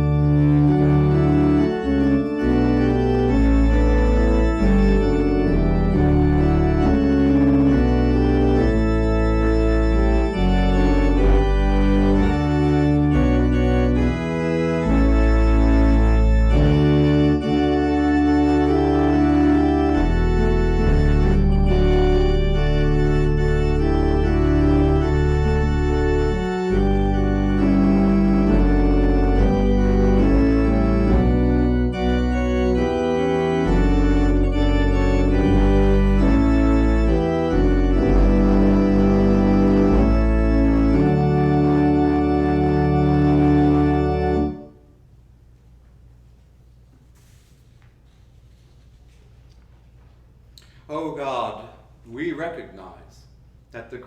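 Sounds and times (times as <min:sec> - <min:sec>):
organ playing slow chords: 0:00.0 - 0:45.1.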